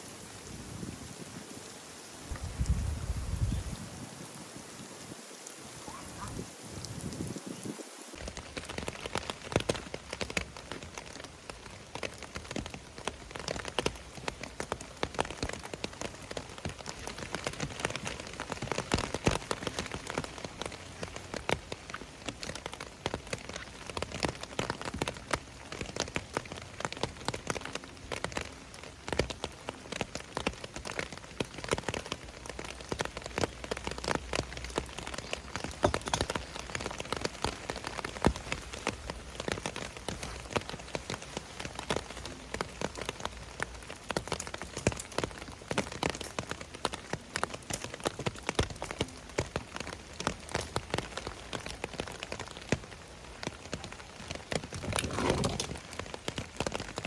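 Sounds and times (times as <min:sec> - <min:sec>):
rain hissing: 0:00.0 - 0:47.6, 0:49.8 - 0:57.0
raindrops ticking on a surface: 0:00.0 - 0:57.0.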